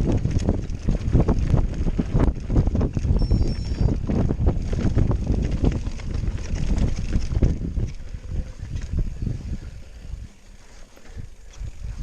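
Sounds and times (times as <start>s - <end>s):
bike tyres and frame rattling: 0.0s - 12.0s
wind buffeting microphone: 0.0s - 12.0s.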